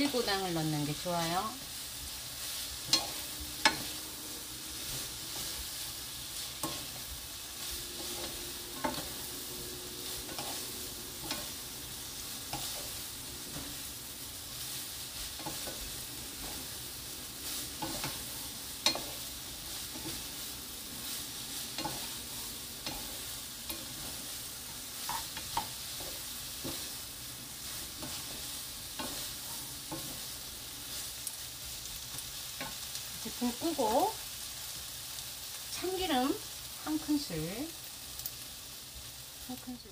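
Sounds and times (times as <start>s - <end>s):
glaze sizzling in a frying pan: 0.0s - 39.9s.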